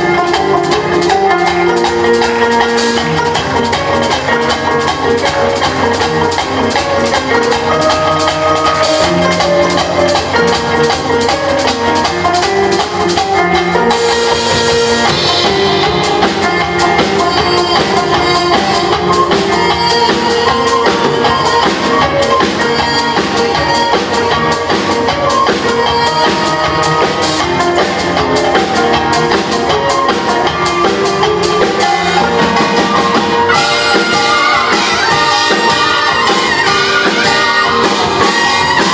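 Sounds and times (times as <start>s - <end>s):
drums fast steady beat: 0.0s - 38.9s
instrumental ensemble playing live: 0.0s - 38.9s.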